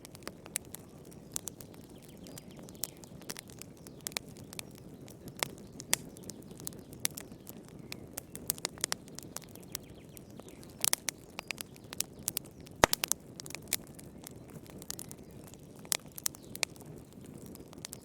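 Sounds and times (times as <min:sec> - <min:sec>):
low rumble of flames: 0:00.0 - 0:18.0
wood fire pops and snaps: 0:00.0 - 0:18.0.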